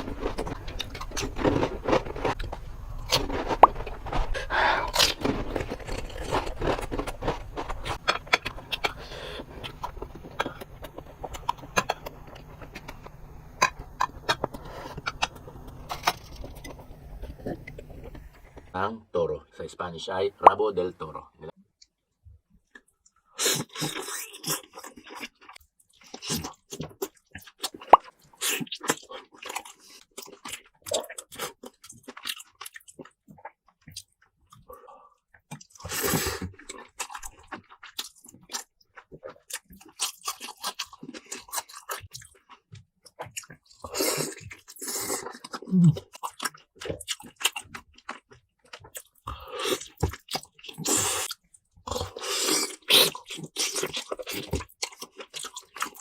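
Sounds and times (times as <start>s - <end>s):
person chewing and crunching: 0.0s - 18.7s, 22.6s - 56.0s.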